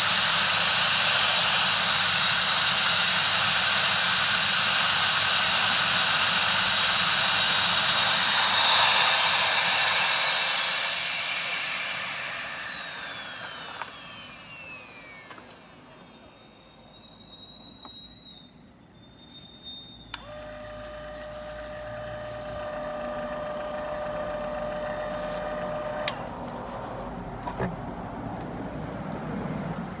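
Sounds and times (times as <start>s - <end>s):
motor whining and winding down: 0.0s - 26.4s.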